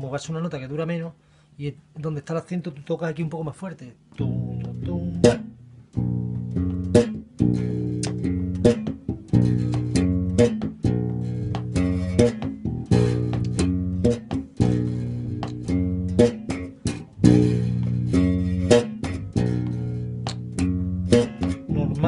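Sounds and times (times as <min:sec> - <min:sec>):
electric bass played fingerstyle: 0:04.2 - 0:22.0.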